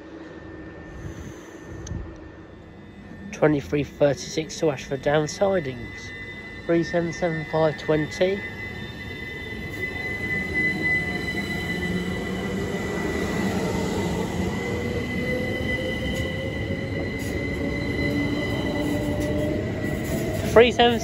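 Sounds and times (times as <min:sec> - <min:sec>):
steady high squeal: 0:00.0 - 0:21.0
electric train motors whining: 0:00.8 - 0:21.0.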